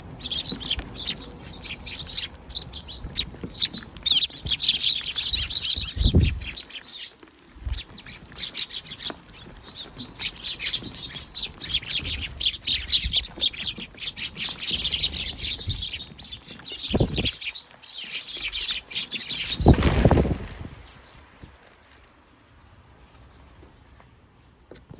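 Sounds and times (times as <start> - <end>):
sparrows chirping rapidly: 0.0 - 23.9.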